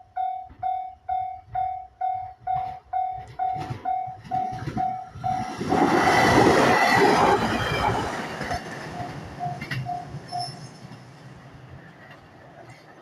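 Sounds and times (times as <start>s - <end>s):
train passing: 1.5s - 13.0s.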